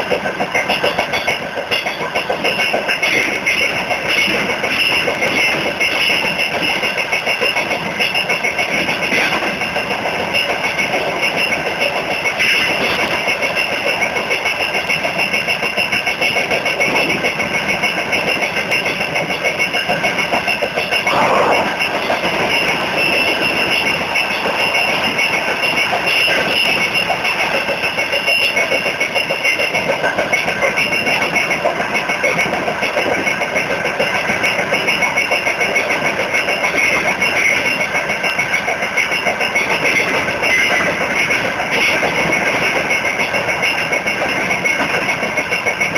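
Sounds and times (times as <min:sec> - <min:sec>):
freight train rumble and rattle: 0:00.0 - 0:45.9.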